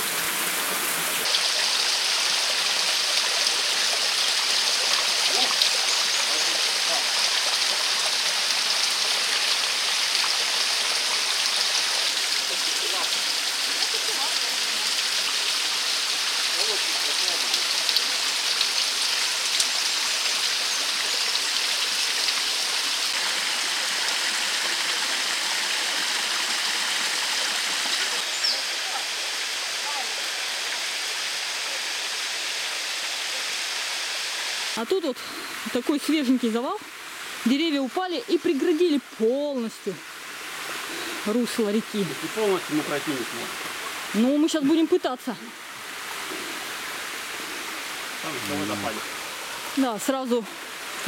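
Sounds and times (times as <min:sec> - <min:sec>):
mountain stream water rushing: 0:00.0 - 0:51.0.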